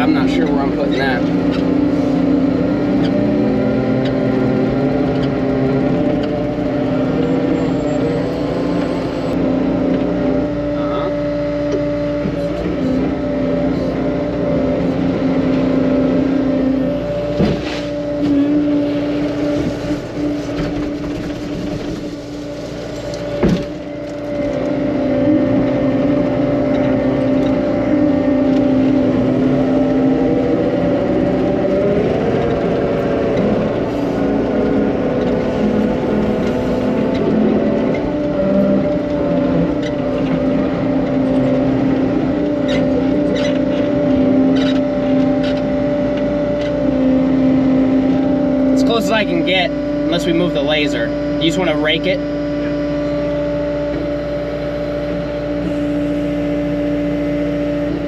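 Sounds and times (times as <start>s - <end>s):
earthmoving machine engine running: 0.0s - 58.0s.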